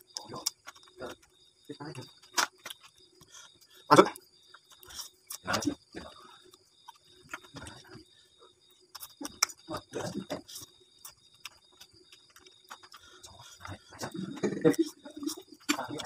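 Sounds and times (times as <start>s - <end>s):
person chewing food: 0.1s - 1.4s, 2.1s - 5.8s, 6.4s - 8.0s, 8.6s - 16.0s.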